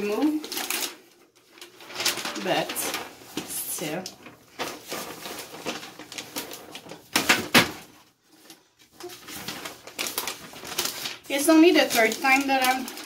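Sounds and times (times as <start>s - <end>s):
newspaper rustling and crinkling: 0.0s - 13.0s.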